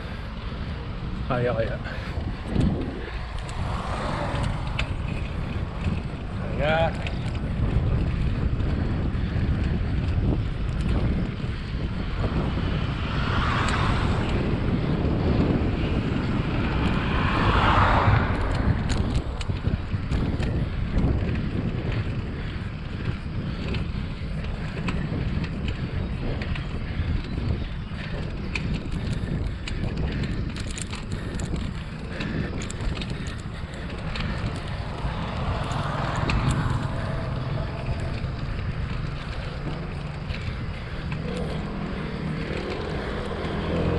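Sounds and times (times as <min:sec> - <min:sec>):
road and tyre noise: 0:00.0 - 0:43.9
wind buffeting microphone: 0:00.0 - 0:43.9.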